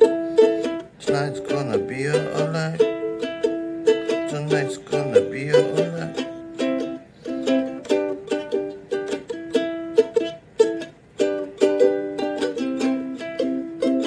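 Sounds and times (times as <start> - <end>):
ukulele strumming: 0.0 - 14.0.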